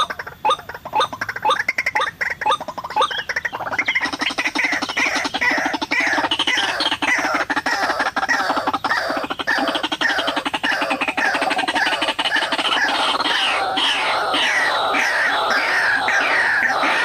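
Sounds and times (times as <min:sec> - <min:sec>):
waterhen calling harsh repeated notes: 0:00.0 - 0:17.0.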